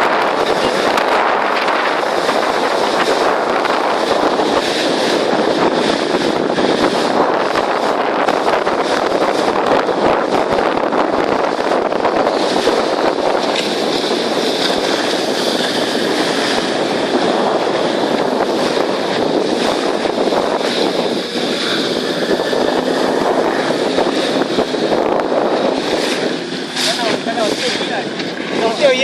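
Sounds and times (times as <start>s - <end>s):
hull moving through water: 0.0s - 29.0s
wind on microphone: 0.0s - 29.0s.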